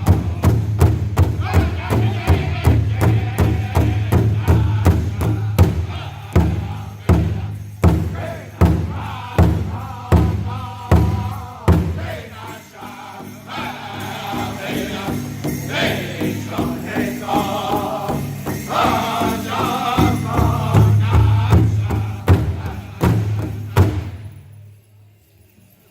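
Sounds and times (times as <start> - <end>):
drum group singing: 0.0 - 24.5
hard drum beats: 0.0 - 24.7.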